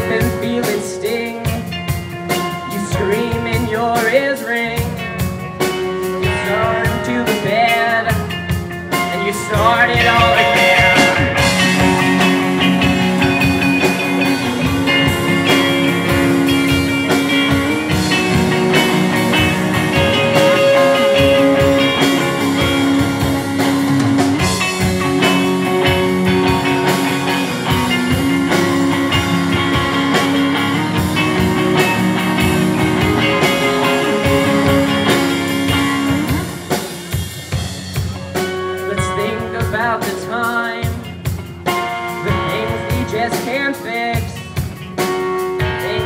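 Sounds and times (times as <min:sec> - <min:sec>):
bass guitar: 0:00.0 - 0:46.0
drum kit beat: 0:00.0 - 0:46.0
electric guitars sustained notes: 0:00.0 - 0:46.0.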